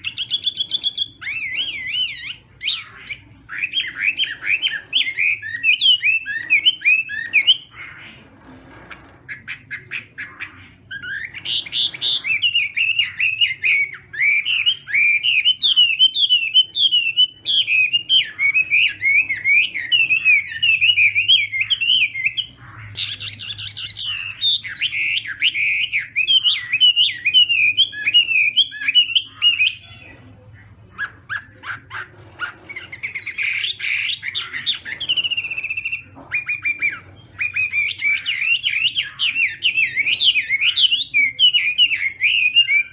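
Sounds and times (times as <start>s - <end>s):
bird singing whistled notes: 0.0s - 7.8s, 9.3s - 29.9s, 33.0s - 42.9s.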